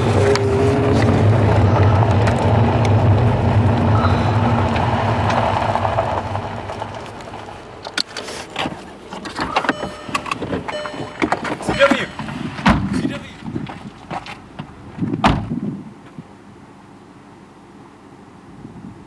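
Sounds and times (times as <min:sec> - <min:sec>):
car engine and tyre hum: 0:00.0 - 0:19.0.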